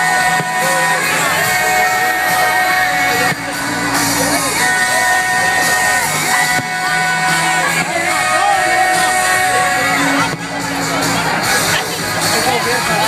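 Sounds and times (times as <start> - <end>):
dance-pop music with singing: 0.0 - 13.0.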